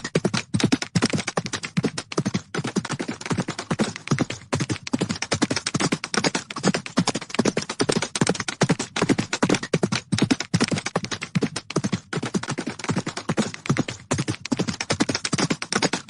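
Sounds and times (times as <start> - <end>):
galloping hoofbeats: 0.0 - 16.0.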